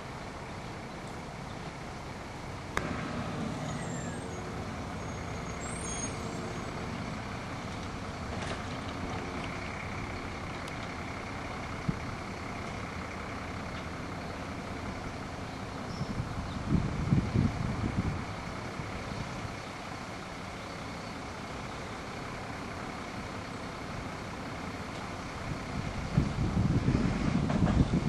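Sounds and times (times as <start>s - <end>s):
garbage truck running: 0.1s - 28.0s.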